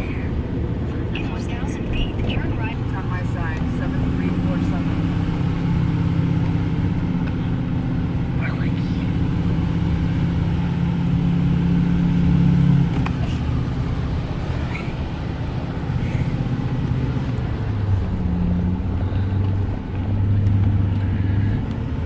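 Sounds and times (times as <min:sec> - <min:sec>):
car engine hum: 0:00.0 - 0:22.0
road noise: 0:00.0 - 0:22.0.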